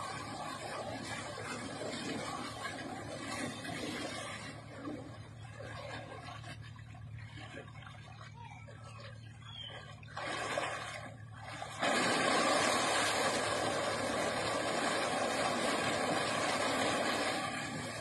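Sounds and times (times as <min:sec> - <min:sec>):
water gushing from pipe: 0:00.0 - 0:08.4, 0:09.8 - 0:18.0.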